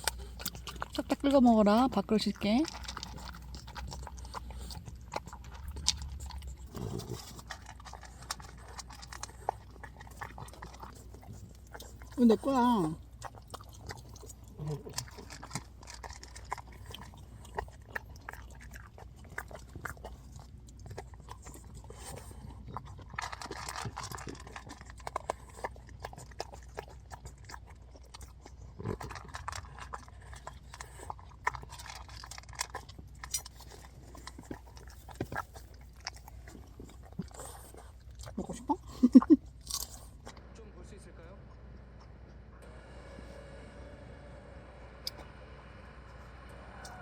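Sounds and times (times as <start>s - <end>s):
chewing and crunching food: 0.0s - 42.6s, 46.5s - 47.0s.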